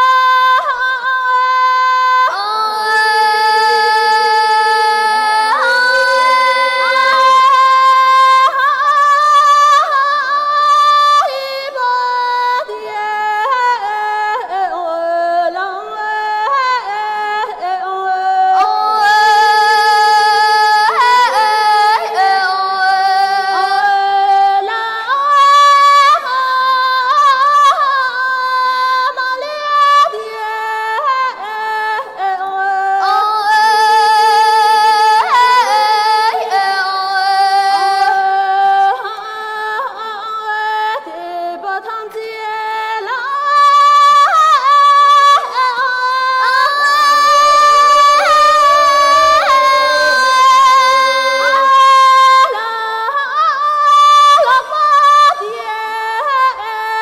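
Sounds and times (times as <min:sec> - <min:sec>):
girl singing solo opera: 0:00.0 - 0:57.0.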